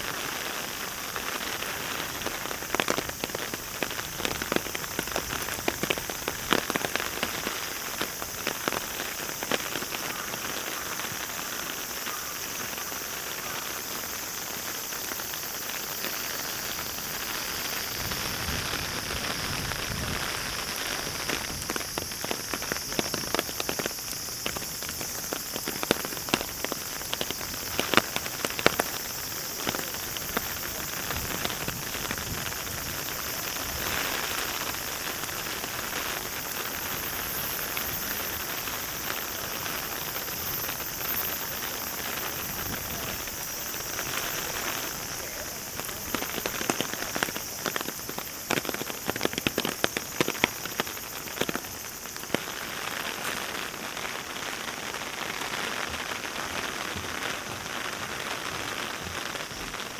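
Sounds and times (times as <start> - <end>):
heavy rain hiss: 0.0 - 59.9
raindrop ticks: 0.1 - 59.9.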